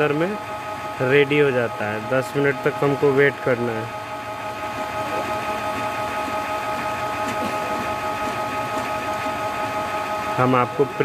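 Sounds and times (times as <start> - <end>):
printer mechanism humming: 0.0 - 11.0.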